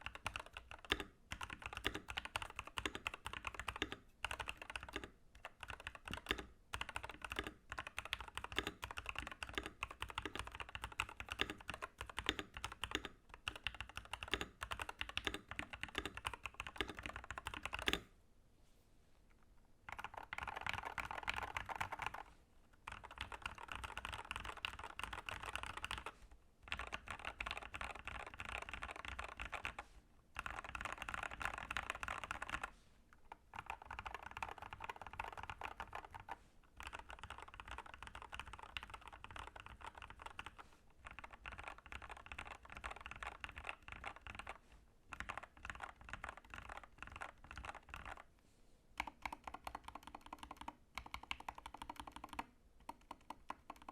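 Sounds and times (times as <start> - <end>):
typing on mechanical keyboard: 0.0 - 18.1, 19.9 - 29.8, 30.4 - 32.7, 33.3 - 48.3, 49.0 - 53.9.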